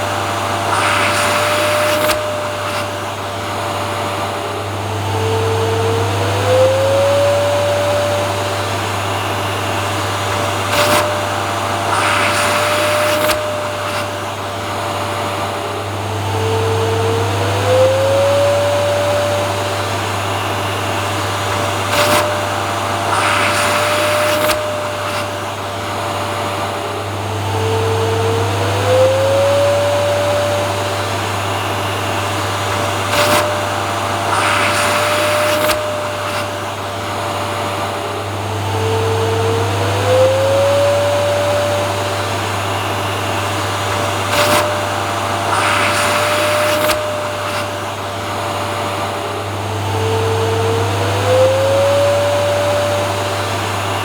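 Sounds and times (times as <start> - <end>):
vacuum cleaner motor humming: 0.0 - 54.0.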